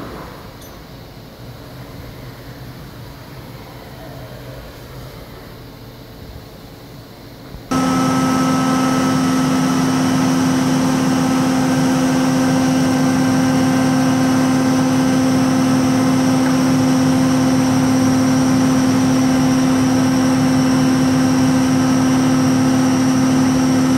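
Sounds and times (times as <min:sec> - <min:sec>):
machining center whining: 0:00.0 - 0:23.9.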